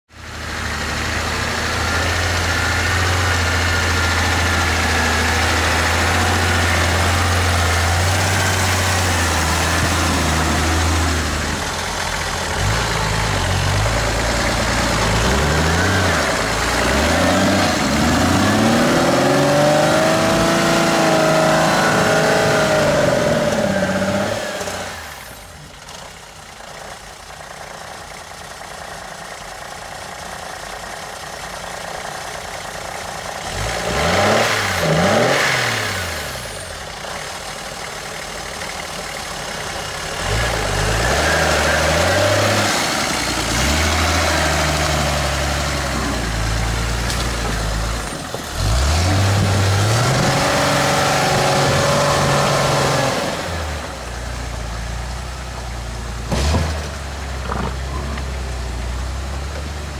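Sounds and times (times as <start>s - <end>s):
engine running under load: 0.2s - 59.9s.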